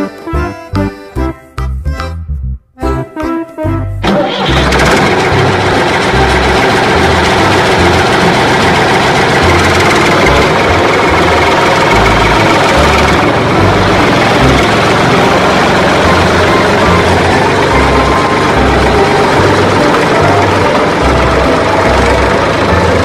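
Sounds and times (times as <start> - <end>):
tractor engine running: 3.9 - 23.0.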